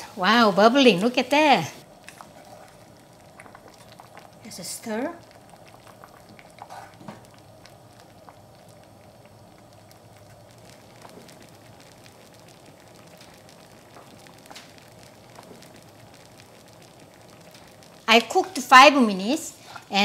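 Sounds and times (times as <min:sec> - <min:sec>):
faint steady bubbling: 0:00.0 - 0:20.0
thick soup boiling with pops: 0:00.0 - 0:20.0.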